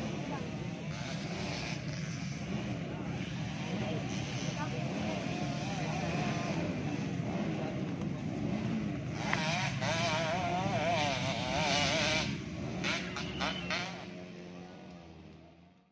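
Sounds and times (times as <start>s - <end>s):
dirt bike revving: 0.0s - 15.8s
dirt bike engines droning: 0.0s - 15.9s.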